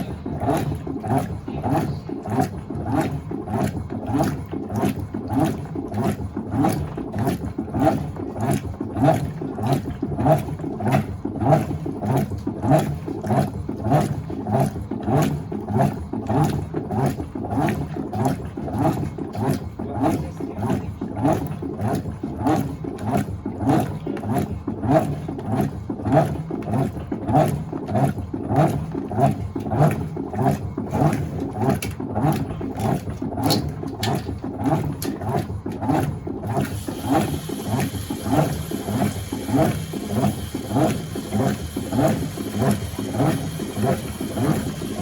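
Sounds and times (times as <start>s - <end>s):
washing machine agitator swishing: 0.0s - 45.0s.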